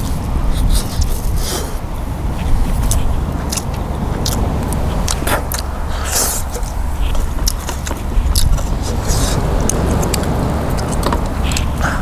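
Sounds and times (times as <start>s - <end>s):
chewing and lip-smacking: 0.0s - 12.0s
wind rumble on microphone: 0.0s - 12.0s.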